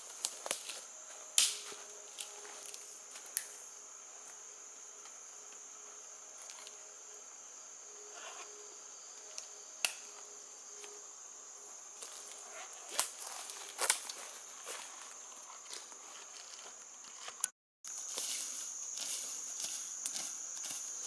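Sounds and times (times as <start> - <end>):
high-pitched insect drone: 0.0 - 17.0, 17.9 - 21.0.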